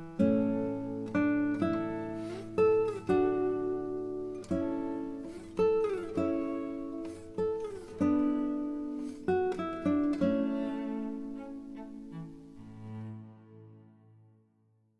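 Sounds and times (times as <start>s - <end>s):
plucked guitar notes: 0.0s - 13.8s.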